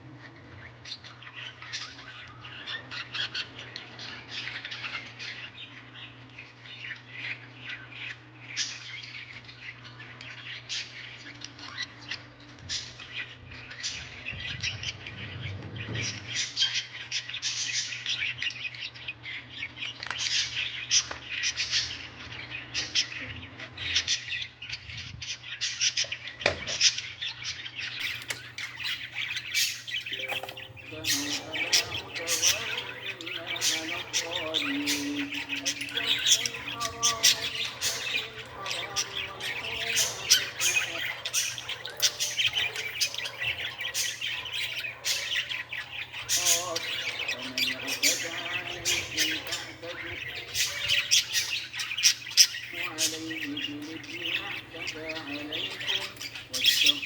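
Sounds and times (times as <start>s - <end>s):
birds chirping: 0.0s - 24.8s, 27.3s - 57.0s.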